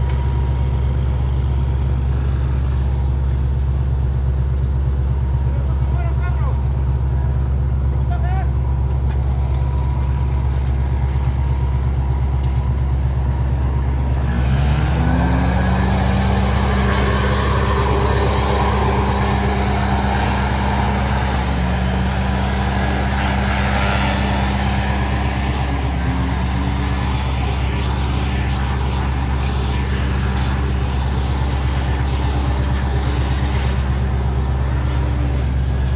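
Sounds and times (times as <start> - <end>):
pitched whine: 0.0 - 35.9
wood chipper engine humming: 0.0 - 35.9.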